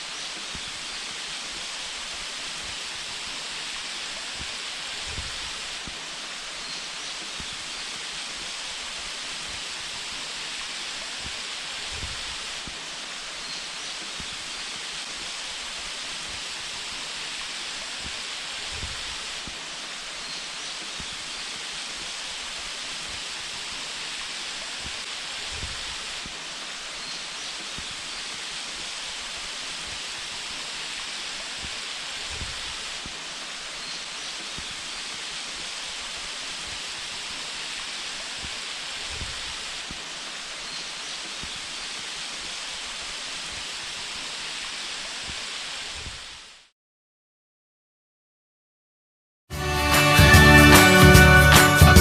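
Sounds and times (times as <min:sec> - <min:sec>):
waterfall roaring: 0:00.0 - 0:46.7.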